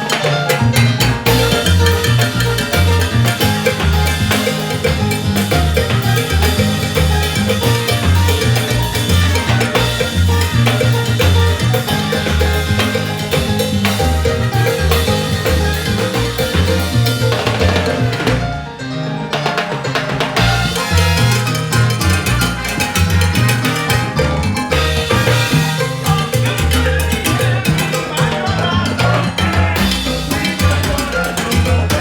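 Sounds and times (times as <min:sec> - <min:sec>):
drums and percussion: 0:00.0 - 0:32.0
salsa band playing: 0:00.0 - 0:32.0
repeating bass line: 0:00.6 - 0:18.6, 0:20.4 - 0:32.0.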